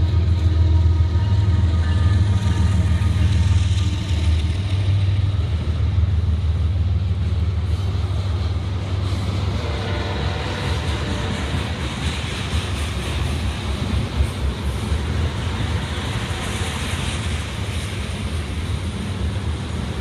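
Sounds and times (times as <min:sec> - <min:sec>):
diesel locomotive engines droning: 0:00.0 - 0:20.0.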